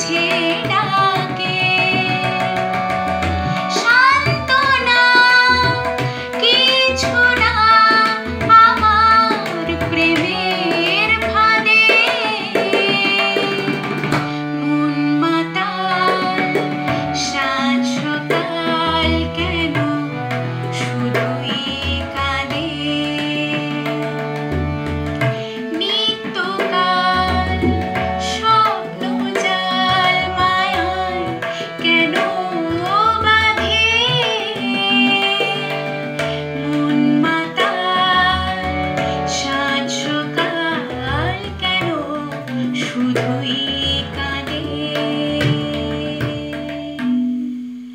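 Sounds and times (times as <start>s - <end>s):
woman singing: 0.0s - 47.4s
harmonium chords: 0.0s - 47.9s
tabla drum strokes: 0.4s - 15.4s, 16.0s - 47.9s.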